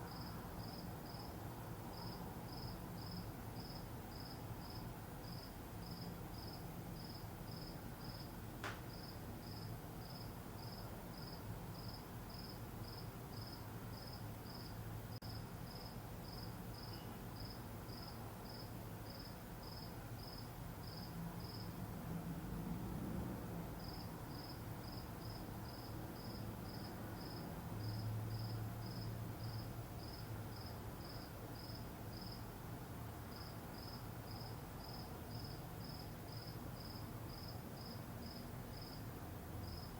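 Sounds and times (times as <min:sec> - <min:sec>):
cricket chirping: 0:00.0 - 0:08.3, 0:08.9 - 0:21.8, 0:23.8 - 0:32.5, 0:33.3 - 0:39.9.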